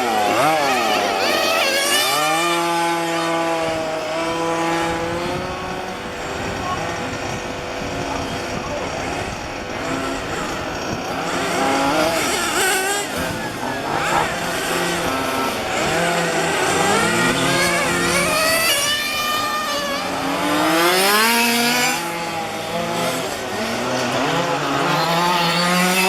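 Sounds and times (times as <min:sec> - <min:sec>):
small two-stroke engines revving: 0:00.0 - 0:26.0.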